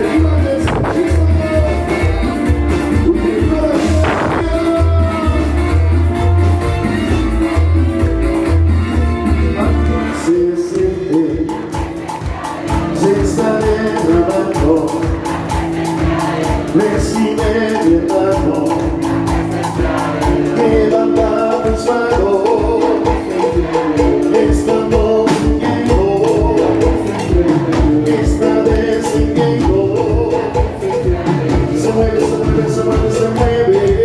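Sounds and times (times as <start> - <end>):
music with steady beat and chords: 0.0 - 34.0.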